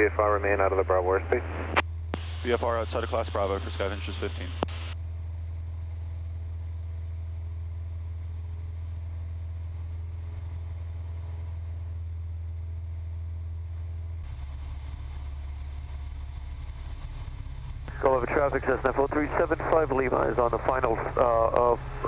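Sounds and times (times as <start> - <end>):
airplane engine and propeller drone: 0.0 - 22.0.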